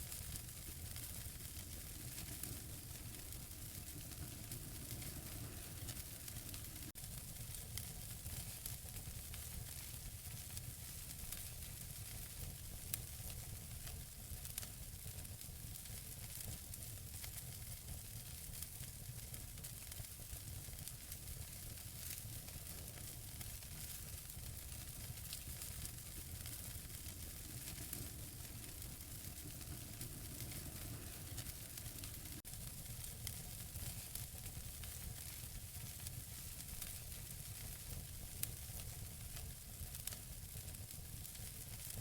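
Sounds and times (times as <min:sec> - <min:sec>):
fire hiss and low rumble: 0:00.0 - 0:42.0
wood fire crackling and popping: 0:00.0 - 0:42.0.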